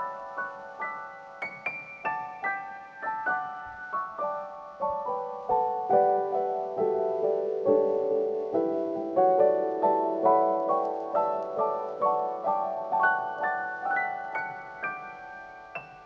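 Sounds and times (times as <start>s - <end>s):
soft solo piano music: 0.0s - 16.0s.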